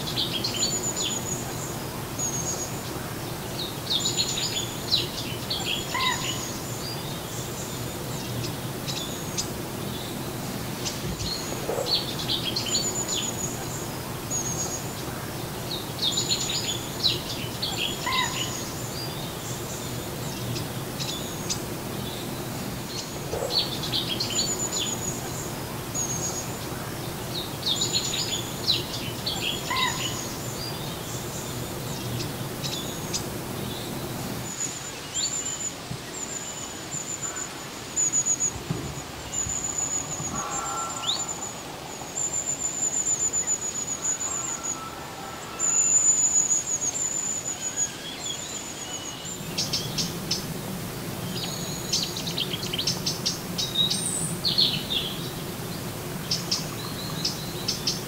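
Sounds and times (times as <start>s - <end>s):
small birds chirping: 0.0s - 58.0s
steady outdoor hiss: 0.0s - 58.0s.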